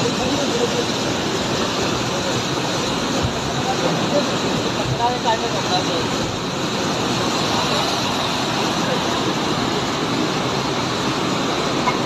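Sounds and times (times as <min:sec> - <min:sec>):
torrential river rushing: 0:00.0 - 0:12.0.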